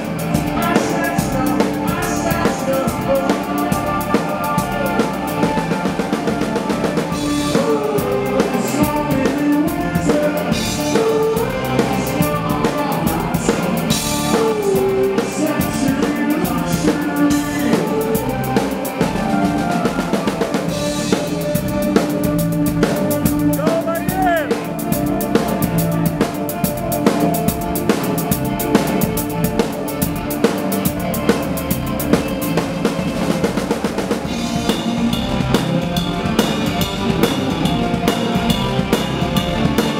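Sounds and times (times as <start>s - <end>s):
bass drum and snare beat: 0.0s - 39.9s
live band playing: 0.0s - 39.9s.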